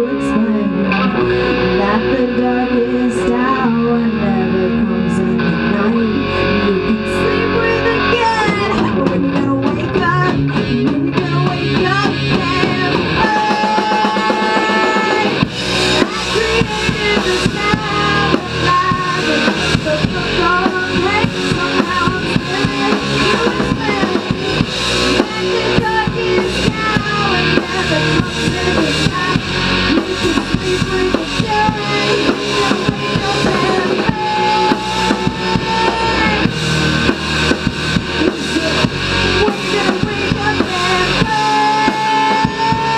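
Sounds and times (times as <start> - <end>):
electric guitar with bent notes: 0.0 - 42.9
drum kit beating: 0.9 - 42.9.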